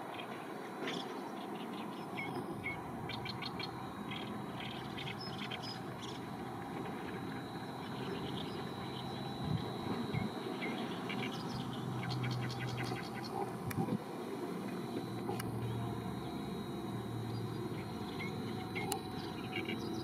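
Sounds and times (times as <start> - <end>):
small birds chirping: 0.9 - 13.5, 14.8 - 20.0.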